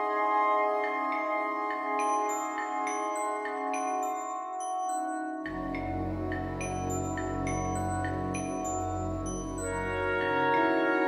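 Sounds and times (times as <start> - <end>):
glockenspiel notes: 0.0 - 11.0.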